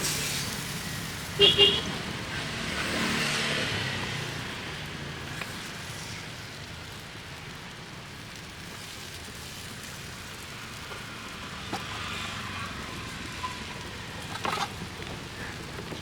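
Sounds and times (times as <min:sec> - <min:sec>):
pancakes sizzling in hot oil: 0:00.0 - 0:16.0.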